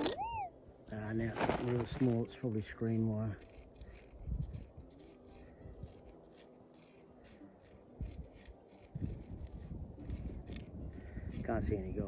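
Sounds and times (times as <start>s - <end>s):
soil scraping and rubbing: 0.9s - 12.0s.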